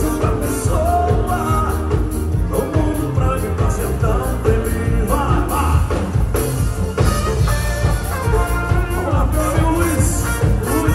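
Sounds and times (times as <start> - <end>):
man singing: 0.0 - 6.6, 8.3 - 10.9.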